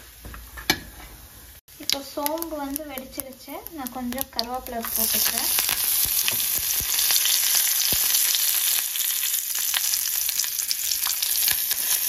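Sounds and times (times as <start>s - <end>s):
oil popping and crackling: 1.7s - 12.0s
spices frying in hot oil: 1.7s - 12.0s.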